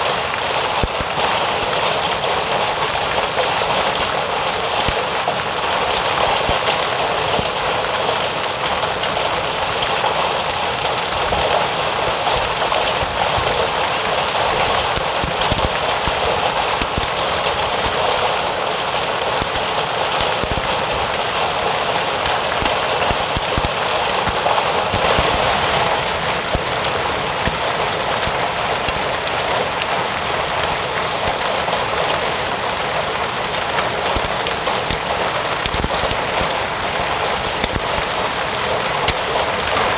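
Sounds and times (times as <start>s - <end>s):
hailstones ticking on ground: 0.0s - 39.9s
rain hissing: 0.0s - 39.9s.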